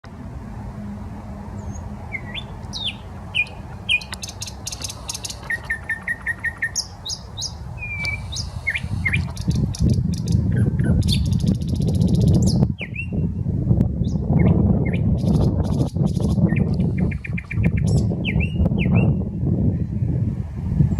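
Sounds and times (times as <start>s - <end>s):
city traffic rumble: 0.0s - 20.9s
bird singing: 1.6s - 13.2s, 14.0s - 19.2s.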